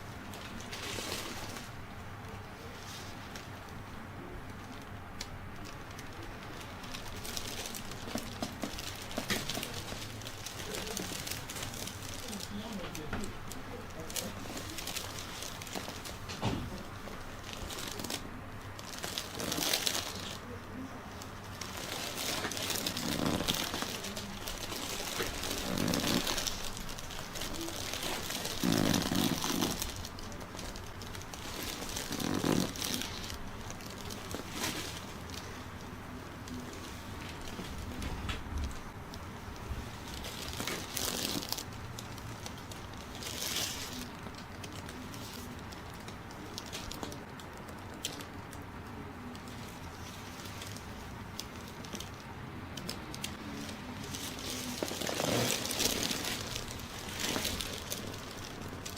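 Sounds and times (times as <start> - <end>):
clothing crinkling: 0.0 - 58.9.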